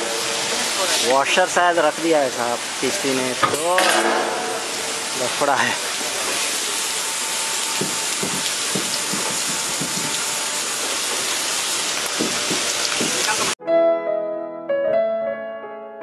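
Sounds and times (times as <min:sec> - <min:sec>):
water spraying hiss: 0:00.0 - 0:13.6.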